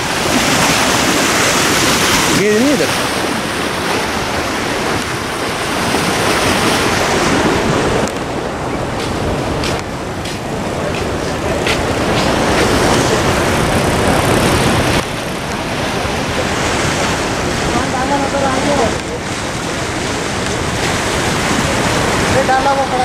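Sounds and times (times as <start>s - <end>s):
churning floodwater rushing: 0.0s - 23.0s.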